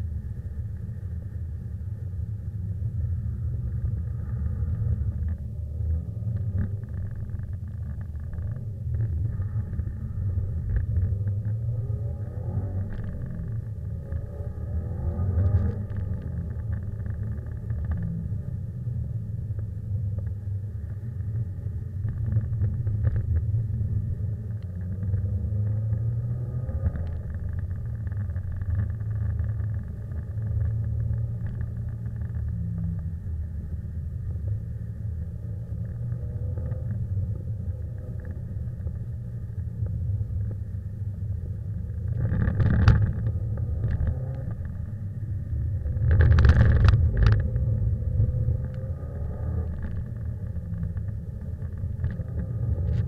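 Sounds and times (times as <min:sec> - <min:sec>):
car engine rumble from cabin: 0:00.0 - 0:53.0.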